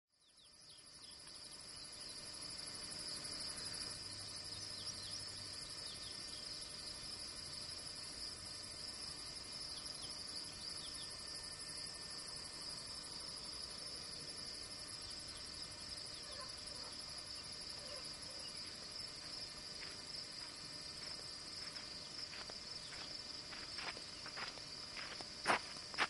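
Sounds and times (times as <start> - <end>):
insects trilling: 0.2 - 26.0.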